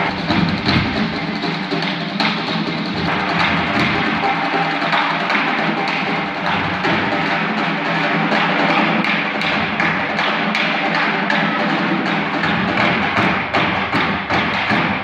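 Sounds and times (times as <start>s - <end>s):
drum line playing a cadence: 0.0s - 15.0s.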